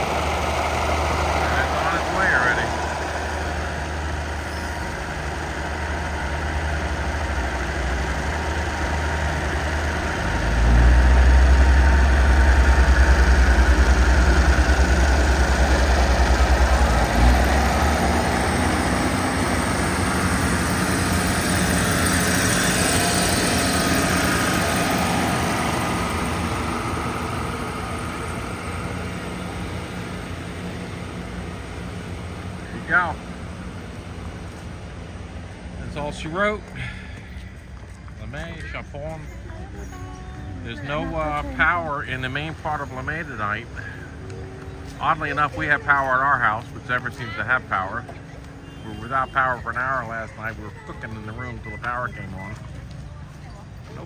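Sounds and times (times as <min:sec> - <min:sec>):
diesel locomotive engine: 0:00.0 - 0:54.0
train carriages rolling: 0:00.0 - 0:54.0.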